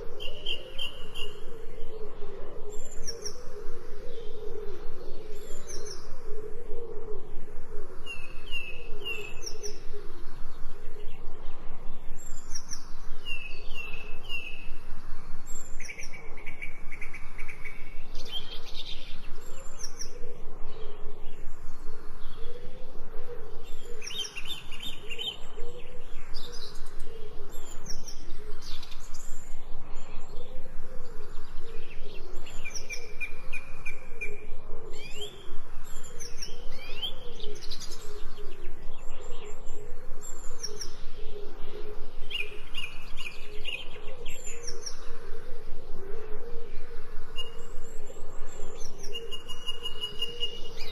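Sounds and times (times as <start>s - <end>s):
birds chirping and trilling: 0.0s - 50.9s.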